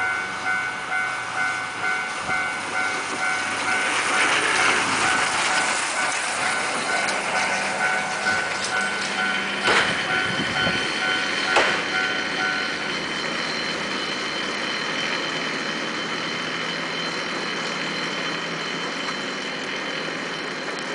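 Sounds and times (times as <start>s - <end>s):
level-crossing warning signal: 0.0s - 20.9s.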